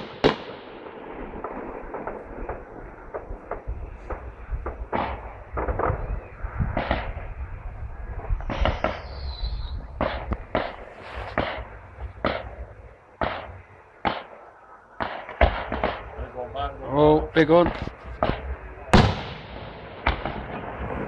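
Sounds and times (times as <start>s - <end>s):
whistling firework: 0.0s - 16.5s, 17.8s - 21.0s
fireworks bangs: 0.0s - 21.0s.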